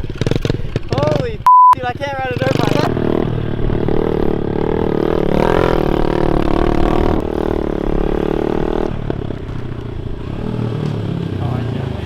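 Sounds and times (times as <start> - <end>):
small motorbike engine revving: 0.0 - 1.4, 2.0 - 12.0.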